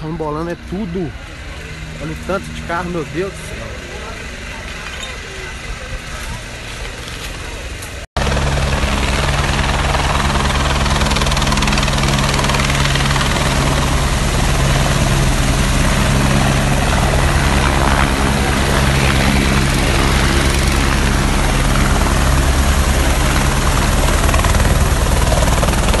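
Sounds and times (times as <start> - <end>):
helicopter engine hum: 0.0 - 26.0
helicopter rotor blades beating: 0.0 - 26.0.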